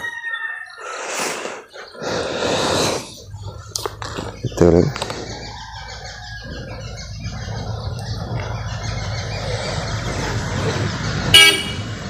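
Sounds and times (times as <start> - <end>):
road vehicle rumble: 0.8 - 12.0.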